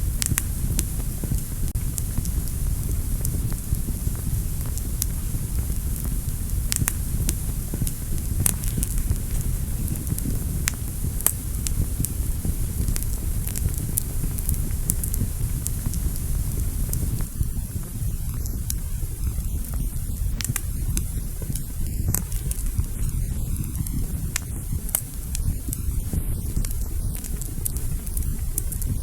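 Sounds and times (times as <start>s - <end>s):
fire crackling and popping: 0.0s - 29.0s
low rumble of fire flames: 0.0s - 29.0s.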